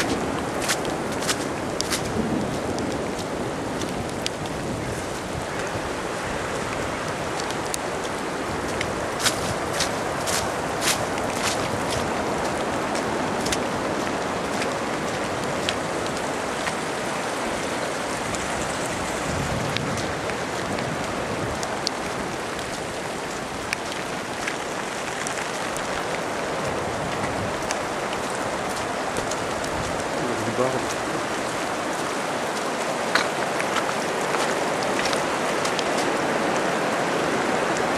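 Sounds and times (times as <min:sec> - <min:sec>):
sharp raindrop ticks: 0:00.0 - 0:04.7, 0:06.5 - 0:17.0, 0:19.6 - 0:36.7
steady rain falling: 0:00.0 - 0:37.9.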